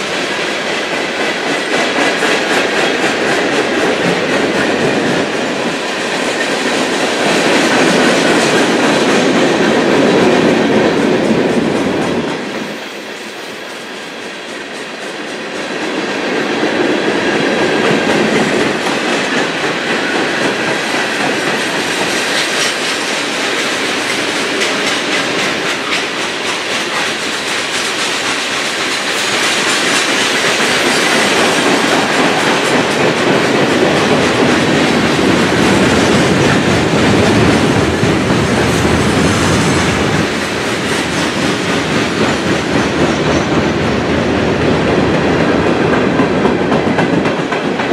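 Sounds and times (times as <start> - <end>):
freight train cars rolling past: 0.0 - 47.9.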